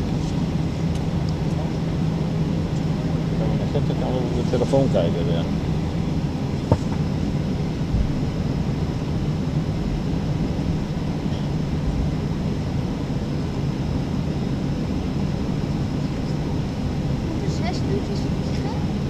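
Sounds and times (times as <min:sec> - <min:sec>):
airliner cabin rumble and hum: 0:00.0 - 0:19.0.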